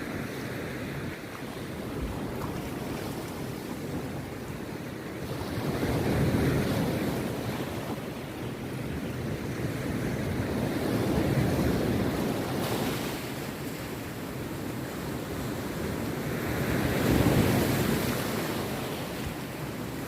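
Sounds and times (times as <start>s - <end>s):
sea waves breaking on a beach: 0.0s - 20.0s.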